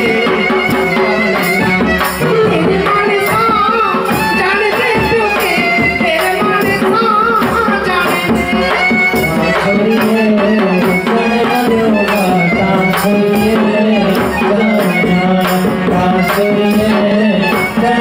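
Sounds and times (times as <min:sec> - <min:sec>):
drum beat: 0:00.0 - 0:18.0
harmonium chords: 0:00.0 - 0:18.0
jingling percussion: 0:00.0 - 0:18.0
person singing folk song: 0:00.0 - 0:18.0.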